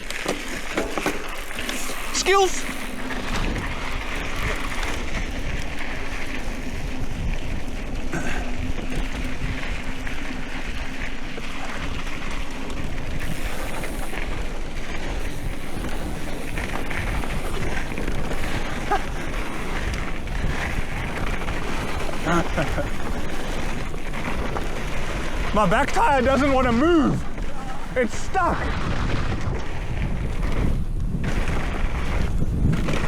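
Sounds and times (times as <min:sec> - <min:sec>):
wind rushing over microphone: 0:01.6 - 0:33.0.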